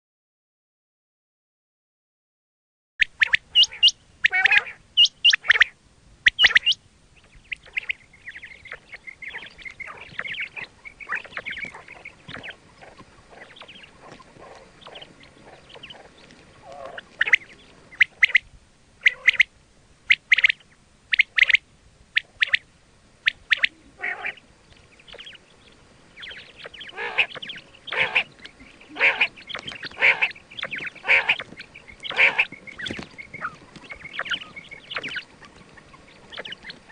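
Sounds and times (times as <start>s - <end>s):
quail calling: 3.0s - 36.9s
soft chattering calls: 3.2s - 19.5s, 20.1s - 21.6s, 22.2s - 36.9s.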